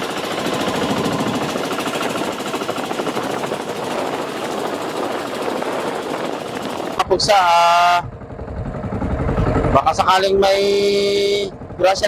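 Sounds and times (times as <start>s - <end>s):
boat engine knocking: 0.0s - 12.0s.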